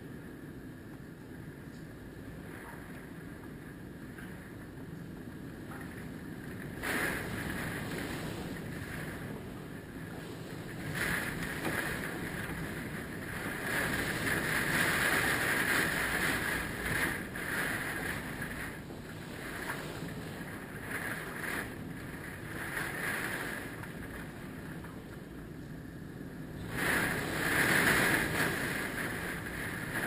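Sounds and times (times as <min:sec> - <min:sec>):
wind gusting on microphone: 0:00.0 - 0:30.0.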